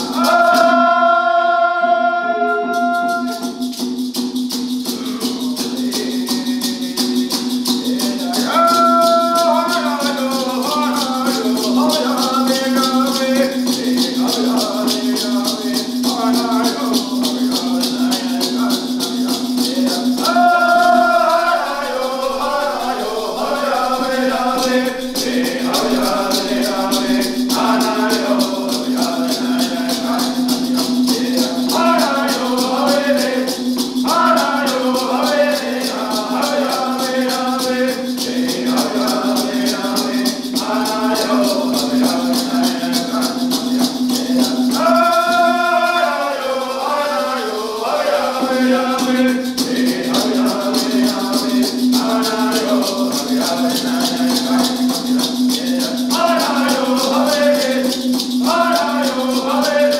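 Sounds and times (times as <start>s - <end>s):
men singing in unison: 0.0s - 59.9s
hand rattles shaken: 2.9s - 59.9s.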